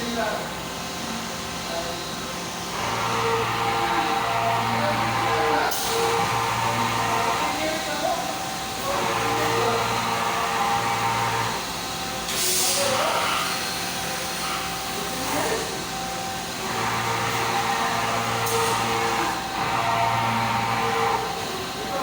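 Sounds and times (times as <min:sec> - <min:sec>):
machine motor tones: 0:00.0 - 0:22.0.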